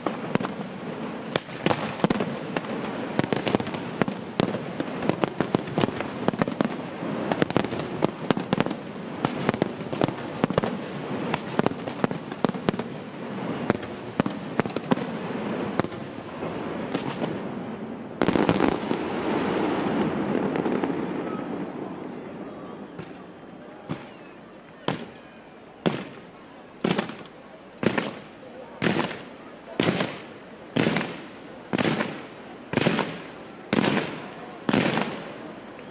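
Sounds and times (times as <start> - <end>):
firework bangs: 0.0 - 35.9
firework crackle: 0.0 - 35.9.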